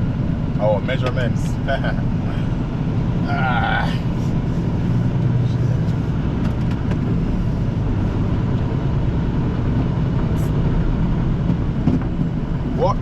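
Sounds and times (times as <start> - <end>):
diesel truck engine rumble: 0.0 - 13.0
road noise: 0.0 - 13.0.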